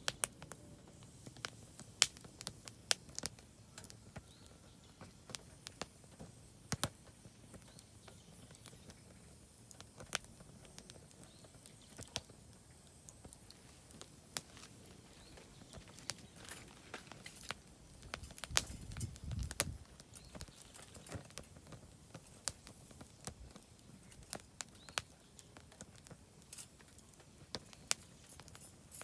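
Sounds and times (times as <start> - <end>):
firewood crackling: 0.0 - 29.0
sharp fire pops: 0.0 - 29.0.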